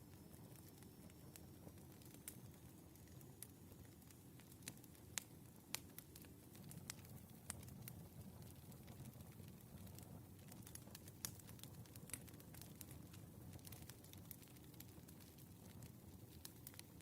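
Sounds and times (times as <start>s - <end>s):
firewood crackling and popping: 0.0s - 17.0s
low rumble of fire: 0.0s - 17.0s.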